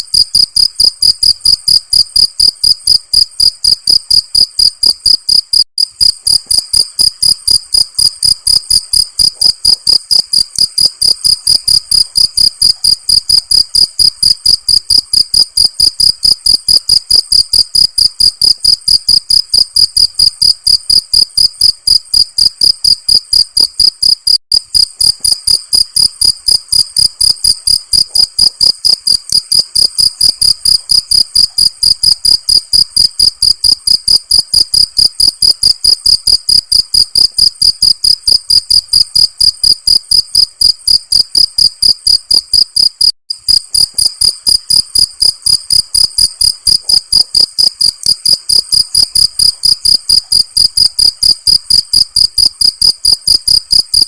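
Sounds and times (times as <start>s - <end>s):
cricket chirping: 0.1s - 54.0s.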